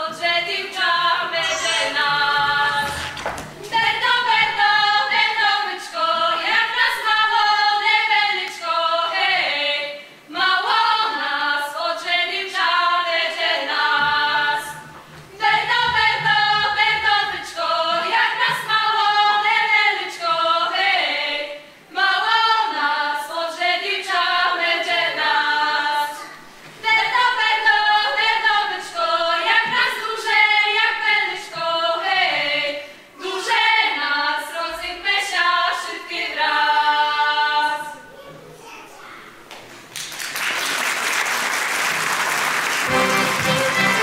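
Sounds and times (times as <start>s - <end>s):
group of girls singing: 0.0s - 38.1s, 42.9s - 44.0s.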